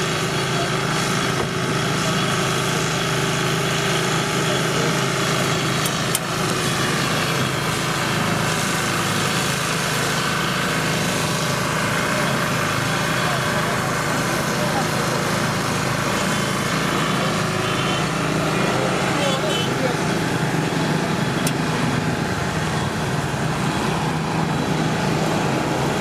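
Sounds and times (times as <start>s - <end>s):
motor running steadily: 0.0s - 26.0s.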